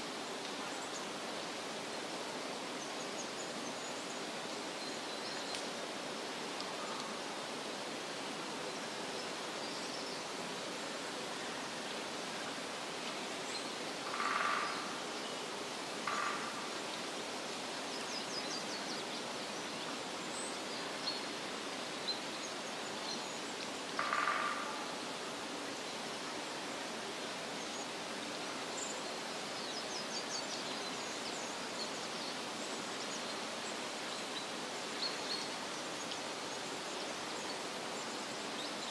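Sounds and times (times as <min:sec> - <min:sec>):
steady hiss of wind or water: 0:00.0 - 0:38.9.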